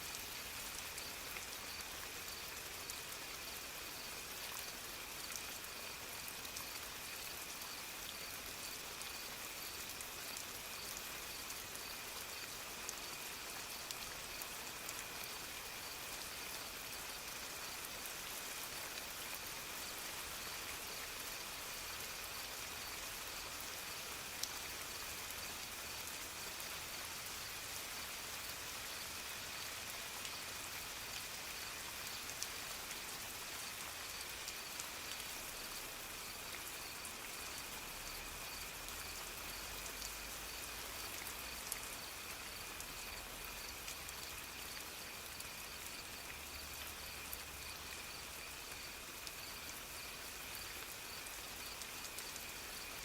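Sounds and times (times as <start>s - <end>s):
soft rain falling: 0.0s - 53.0s.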